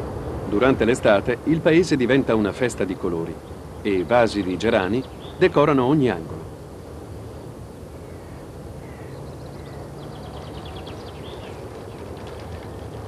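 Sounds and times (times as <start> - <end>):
low background hum: 0.0 - 13.0
birds calling: 0.2 - 6.5, 7.4 - 13.0.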